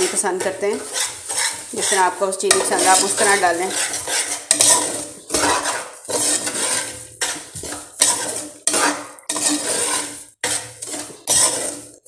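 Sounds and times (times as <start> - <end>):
metal spoon scraping a pot: 0.0 - 12.0.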